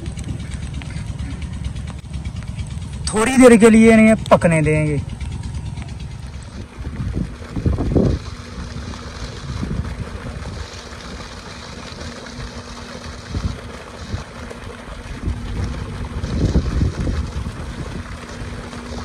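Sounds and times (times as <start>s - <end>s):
wind buffeting microphone: 0.0s - 3.0s, 5.0s - 19.0s.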